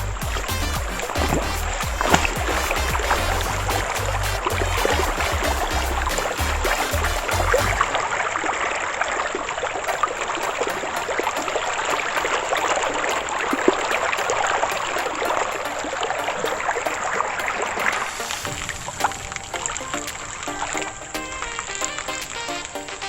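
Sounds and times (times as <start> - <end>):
music: 0.0 - 8.0, 9.9 - 23.0
stream of water running: 0.0 - 23.0.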